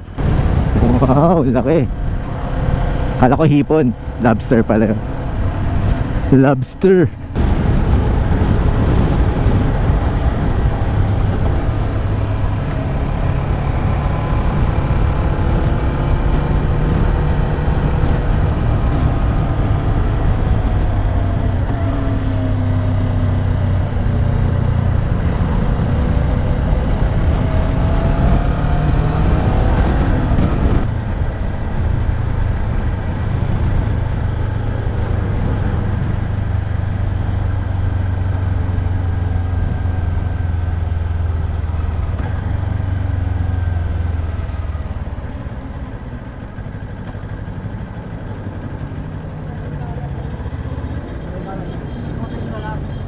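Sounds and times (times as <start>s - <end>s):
low rumble of wind: 0.0s - 53.0s.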